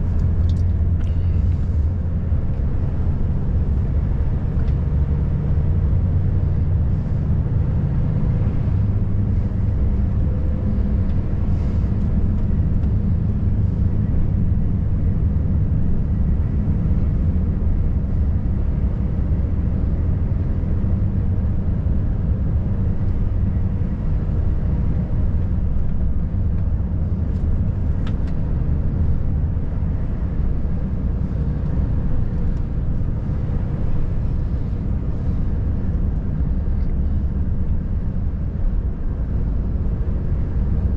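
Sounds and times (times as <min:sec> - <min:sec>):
diesel truck engine drone: 0:00.0 - 0:40.9.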